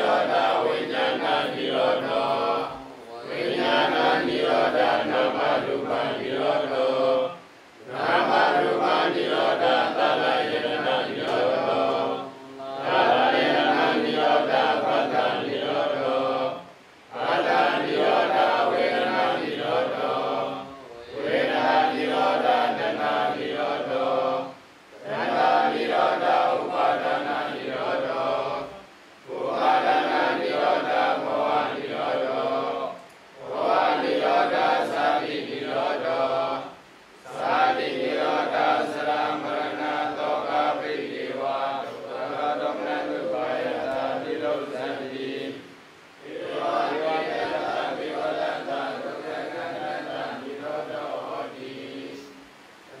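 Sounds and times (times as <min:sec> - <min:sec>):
monks chanting in unison: 0:00.0 - 0:53.0.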